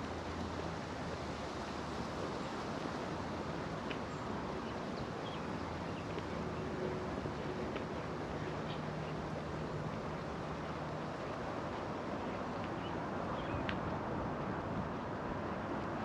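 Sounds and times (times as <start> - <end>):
distant traffic: 0.0 - 16.0.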